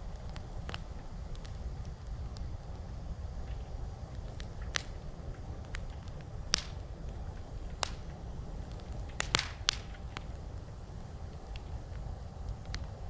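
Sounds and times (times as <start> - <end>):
campfire crackling and popping: 0.0 - 13.0
steady low rumble: 0.0 - 13.0.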